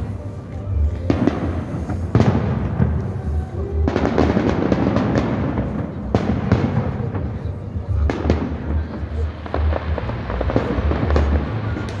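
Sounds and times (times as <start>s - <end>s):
crackling firework reports: 0.0s - 12.0s.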